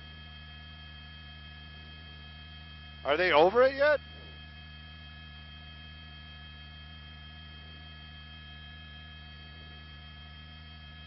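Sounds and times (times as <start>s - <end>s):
intercom electrical hum: 0.0s - 11.0s.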